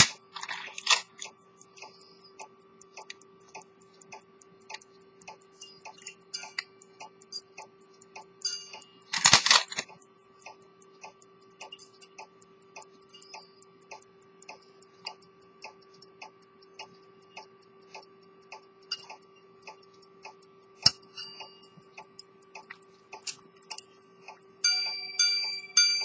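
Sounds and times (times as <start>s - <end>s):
pocket watch ticking: 0.0s - 26.0s.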